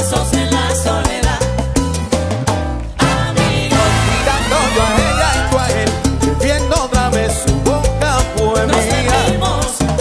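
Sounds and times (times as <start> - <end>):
bass line: 0.0 - 10.0
percussion strikes: 1.1 - 10.0.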